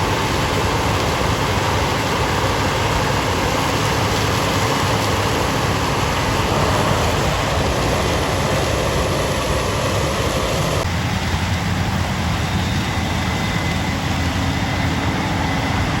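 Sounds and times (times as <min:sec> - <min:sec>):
combine harvester engine hum: 0:00.1 - 0:16.0.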